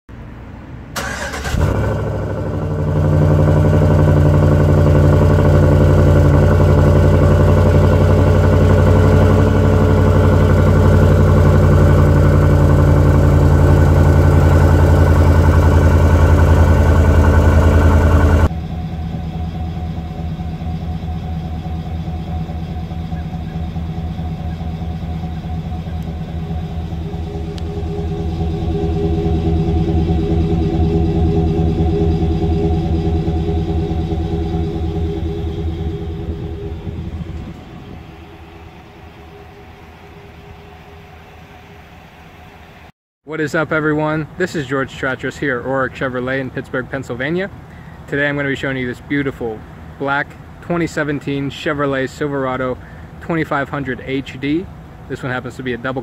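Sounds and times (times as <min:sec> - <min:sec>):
truck engine cranking and idling: 0:00.0 - 0:56.0.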